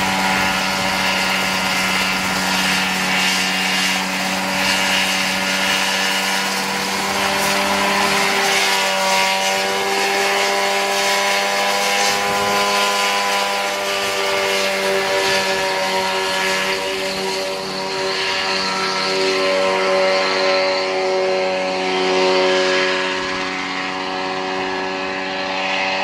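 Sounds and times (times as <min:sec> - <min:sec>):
helicopter engine running: 0:00.0 - 0:26.0.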